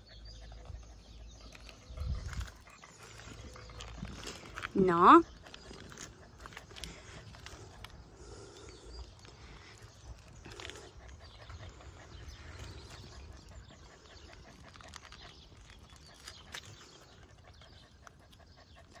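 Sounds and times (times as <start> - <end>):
puppy panting: 0.0 - 19.0.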